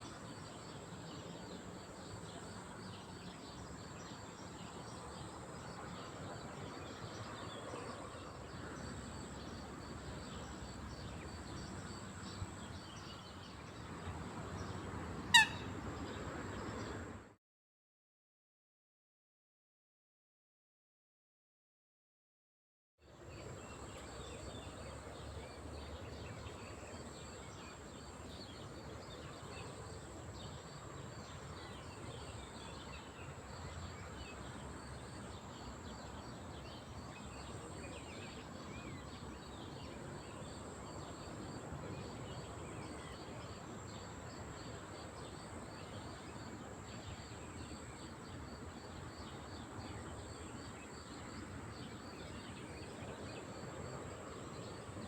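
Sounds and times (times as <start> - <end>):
outdoor background noise: 0.0 - 17.4, 23.0 - 55.0.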